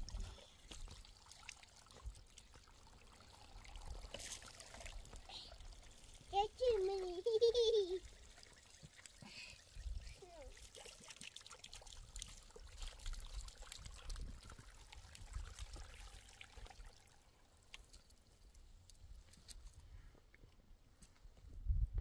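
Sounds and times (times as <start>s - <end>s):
water trickling into plastic can: 0.0s - 19.6s.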